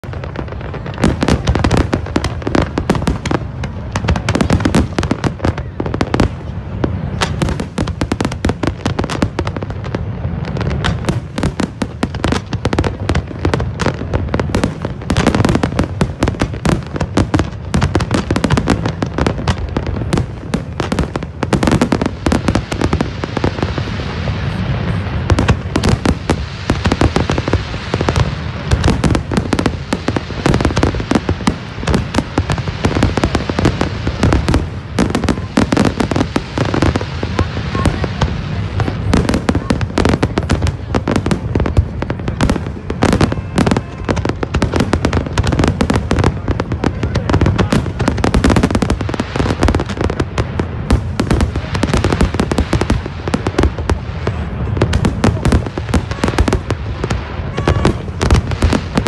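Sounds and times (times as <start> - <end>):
fireworks bursts and crackling: 0.0 - 59.0.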